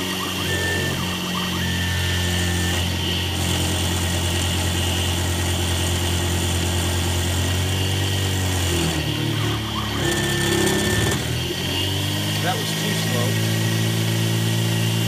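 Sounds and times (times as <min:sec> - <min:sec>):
high machine whine: 0:00.0 - 0:15.0
milling machine hum: 0:00.0 - 0:15.0.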